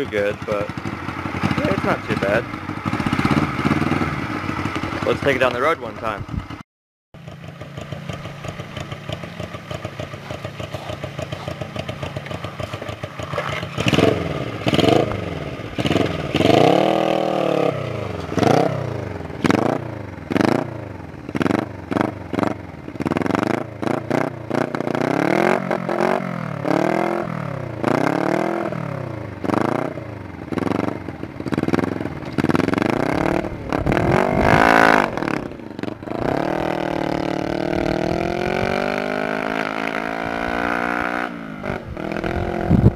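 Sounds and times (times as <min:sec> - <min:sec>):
motorcycle engine revving: 0:00.0 - 0:06.6, 0:07.2 - 0:42.9.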